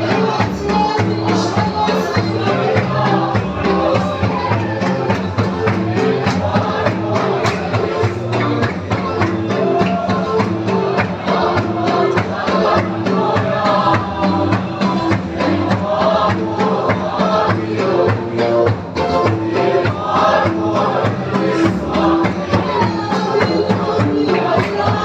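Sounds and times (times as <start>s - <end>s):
group singing a hymn: 0.0s - 25.0s
steady drum beat: 0.0s - 25.0s.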